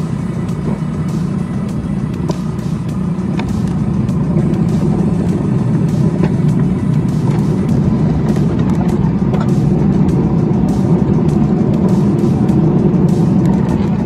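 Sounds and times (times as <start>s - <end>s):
miniature locomotive running: 0.0s - 14.0s
wheels clicking over rail joints: 0.0s - 14.0s.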